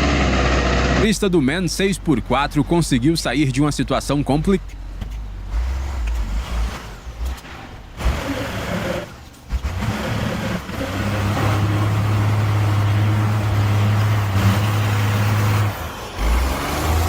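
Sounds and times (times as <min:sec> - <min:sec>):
diesel truck engine working hard: 0:00.0 - 0:17.0.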